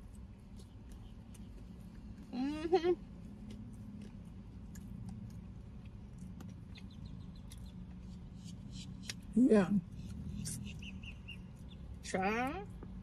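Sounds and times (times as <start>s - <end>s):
eating and handling sounds: 0.0s - 12.1s
low car cabin hum: 0.0s - 13.0s.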